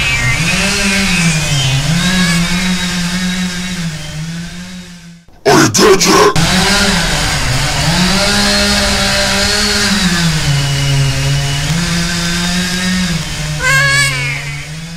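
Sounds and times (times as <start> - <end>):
chainsaw engine revving: 0.1 - 14.9.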